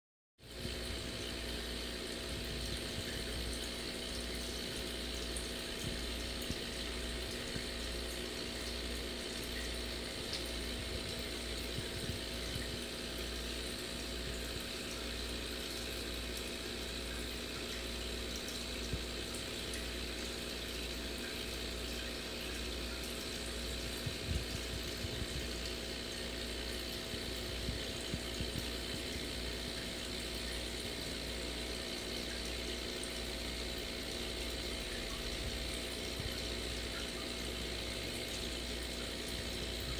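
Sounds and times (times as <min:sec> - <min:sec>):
low even hum: 0:00.4 - 0:39.9
fine bubbles fizzing in water: 0:00.5 - 0:39.9.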